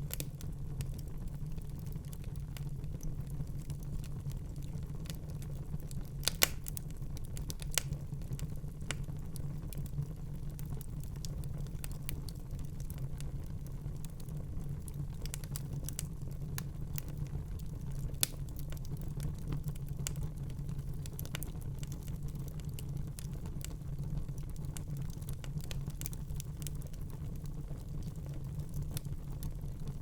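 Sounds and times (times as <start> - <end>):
fire crackling and popping: 0.0 - 30.0
low rumble of flames: 0.0 - 30.0.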